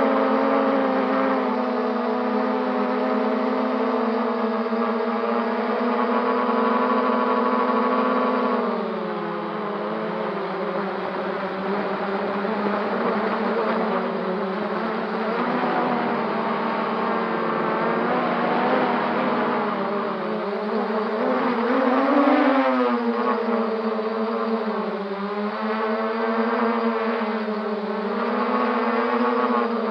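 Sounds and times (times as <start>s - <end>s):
quadcopter propellers whining: 0.0s - 29.9s.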